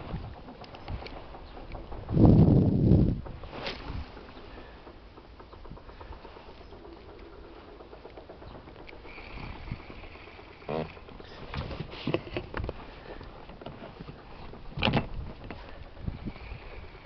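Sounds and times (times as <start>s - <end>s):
fishing reel whirring: 0.1s - 17.0s.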